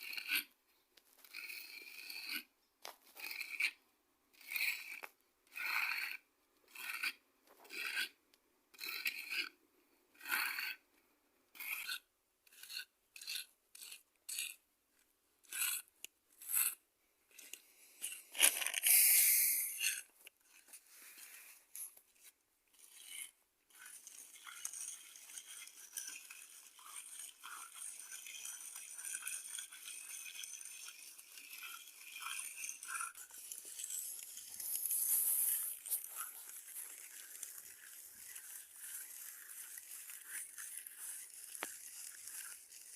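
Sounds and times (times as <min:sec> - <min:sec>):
faint crackling scrape with ticks: 0:00.0 - 0:03.8, 0:04.4 - 0:08.2, 0:08.8 - 0:09.6, 0:10.2 - 0:10.8, 0:11.6 - 0:14.6, 0:15.4 - 0:19.0, 0:19.7 - 0:42.9.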